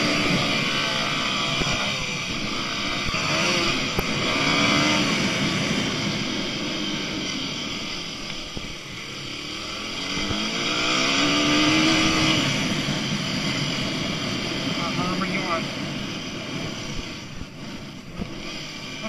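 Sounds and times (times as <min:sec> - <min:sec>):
constant noisy rush: 0:00.0 - 0:19.0
dirt bike engine revving: 0:00.0 - 0:19.0.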